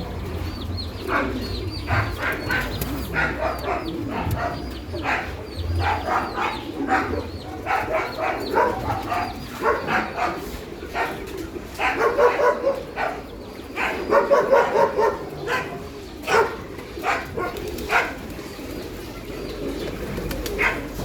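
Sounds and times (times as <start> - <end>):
small birds chirping: 0.0 - 21.0
dogs barking: 0.9 - 19.0, 20.4 - 21.0.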